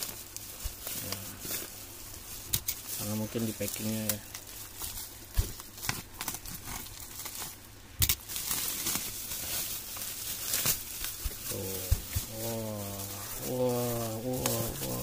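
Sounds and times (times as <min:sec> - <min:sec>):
plastic parcel crinkling: 0:00.0 - 0:15.0.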